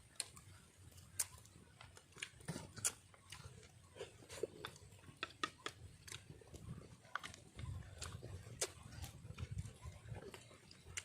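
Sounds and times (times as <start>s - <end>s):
chewing clicks and smacks: 0.1s - 11.0s.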